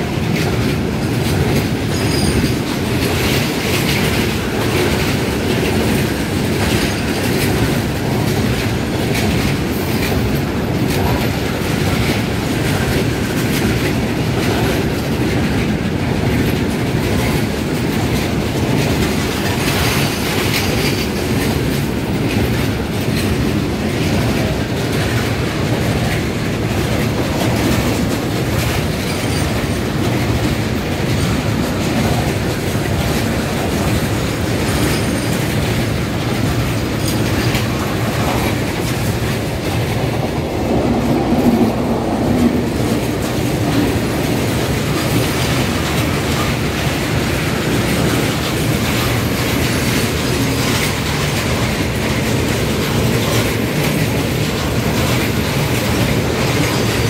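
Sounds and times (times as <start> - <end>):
freight train rumbling past: 0.0 - 57.0
wheels clattering over rail joints: 0.0 - 57.0.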